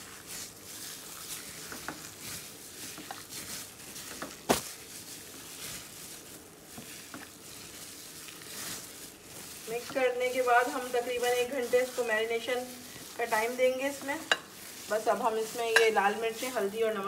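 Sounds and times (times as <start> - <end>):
wet squishing of kneaded mince: 0.0 - 17.0.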